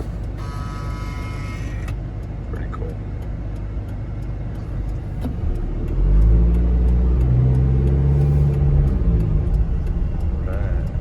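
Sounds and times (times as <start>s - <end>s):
diesel van engine accelerating: 0.0s - 11.0s.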